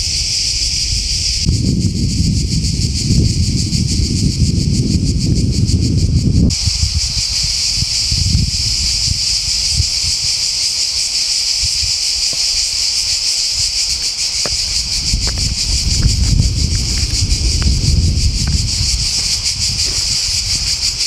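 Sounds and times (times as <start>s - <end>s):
cicadas buzzing: 0.0s - 21.0s
wind rumble on microphone: 0.0s - 21.0s.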